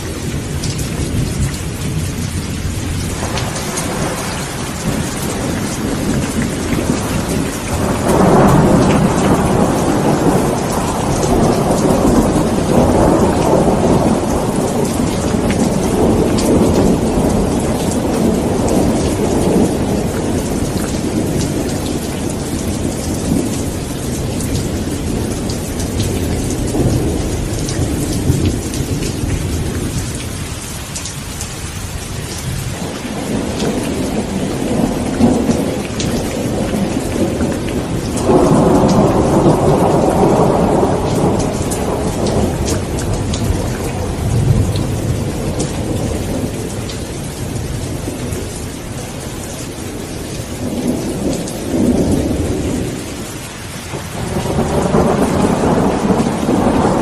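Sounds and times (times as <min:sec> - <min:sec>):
rolling thunder: 0:00.0 - 0:30.6, 0:31.9 - 0:57.0
heavy rain: 0:00.0 - 0:57.0.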